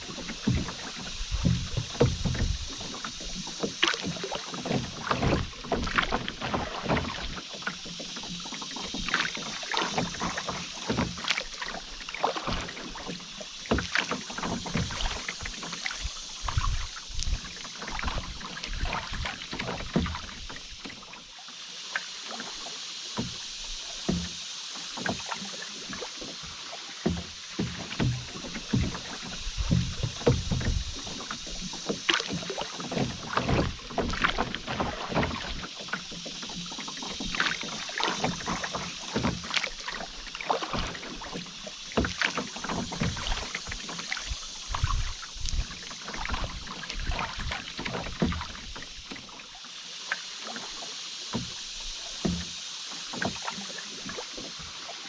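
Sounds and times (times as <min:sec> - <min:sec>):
paddle splashes and knocks: 0:00.0 - 0:55.0
rushing river water: 0:00.0 - 0:55.0.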